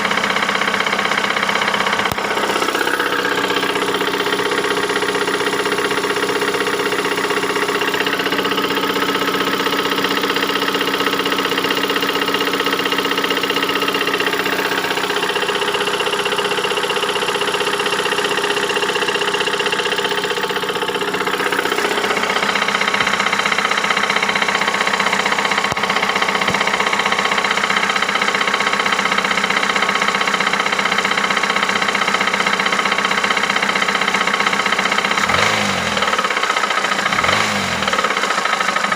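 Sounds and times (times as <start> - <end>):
car engine knocking: 0.0 - 38.9.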